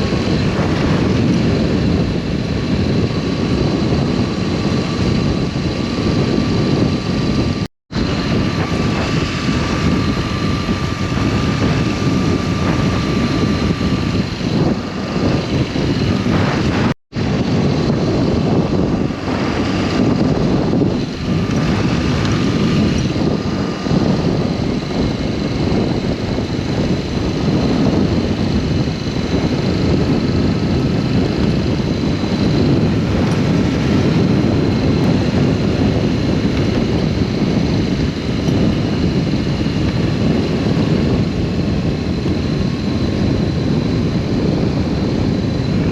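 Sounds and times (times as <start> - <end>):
motorcycle engine running: 0.0 - 45.9
wind noise: 0.0 - 45.9.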